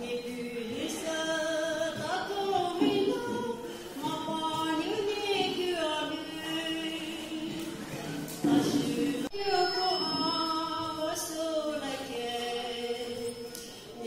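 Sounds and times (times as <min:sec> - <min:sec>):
woman singing slow melody: 0:00.0 - 0:07.7, 0:08.4 - 0:14.0.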